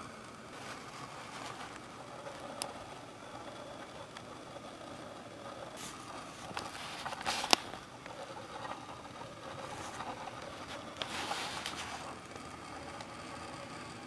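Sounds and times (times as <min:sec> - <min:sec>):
quiet rustling: 0:00.5 - 0:12.2.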